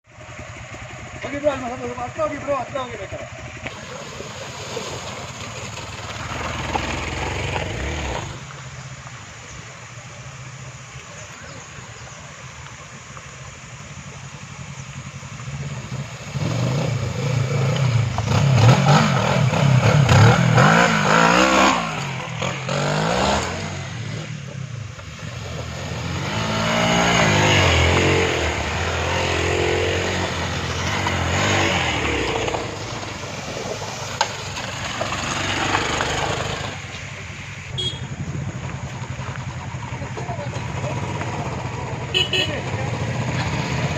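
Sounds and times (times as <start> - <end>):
motorcycle engine revving: 0.1 - 8.6, 13.4 - 37.1, 37.7 - 43.9.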